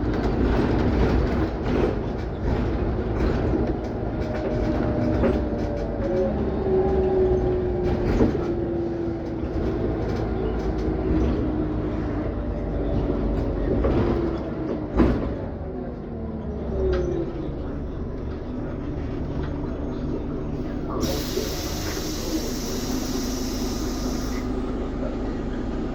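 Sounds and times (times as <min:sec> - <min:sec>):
bus drivetrain and road rumble: 0:00.0 - 0:25.9.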